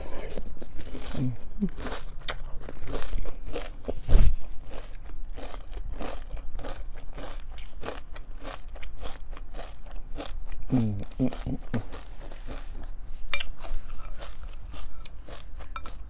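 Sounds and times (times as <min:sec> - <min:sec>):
crunching cereal: 0:00.3 - 0:16.0.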